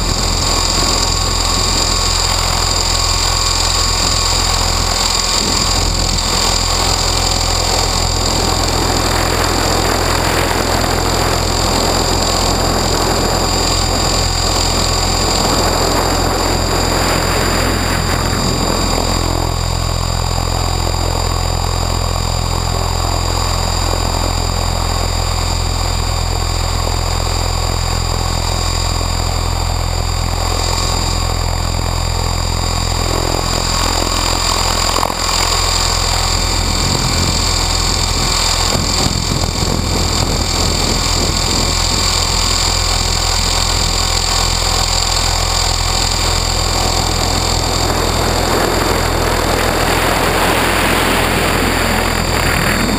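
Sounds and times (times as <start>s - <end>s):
helicopter rotor hum: 0.0s - 52.9s
high motor whine: 0.0s - 52.9s
wind buffeting microphone: 0.0s - 52.9s.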